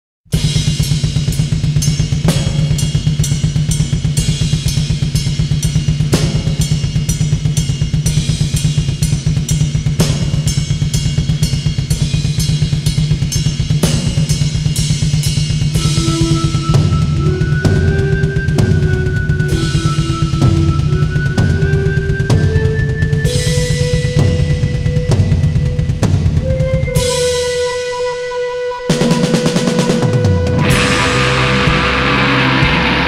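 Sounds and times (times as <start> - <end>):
heavy accented drum hit: 0.3 - 27.7, 29.0 - 33.0
fast metal drumming: 0.4 - 27.7, 28.9 - 33.0.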